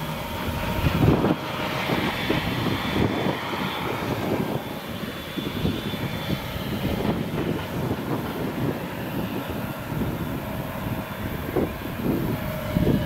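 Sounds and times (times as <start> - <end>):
forage harvester engine drone: 0.0 - 13.0.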